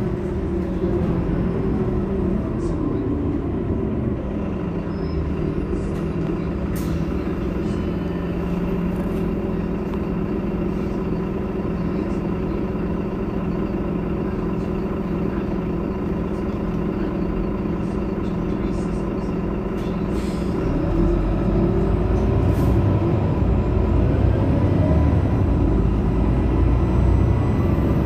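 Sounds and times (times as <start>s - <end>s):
bus engine idling: 0.0s - 28.0s.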